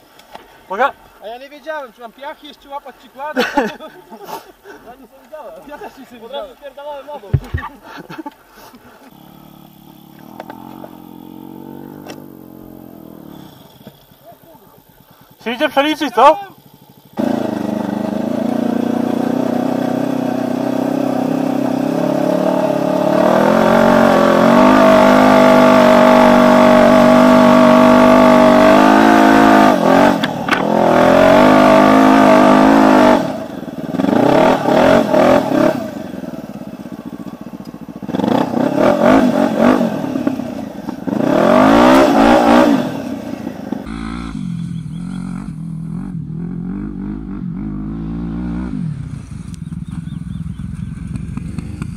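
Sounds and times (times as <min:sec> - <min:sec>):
quad bike engine revving: 0:09.1 - 0:51.9.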